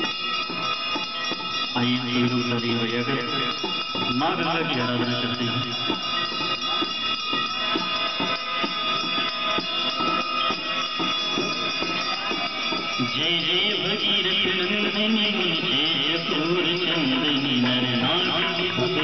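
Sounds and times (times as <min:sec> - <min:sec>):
bells ringing: 0:00.0 - 0:19.0
metallic shimmer: 0:00.0 - 0:19.0.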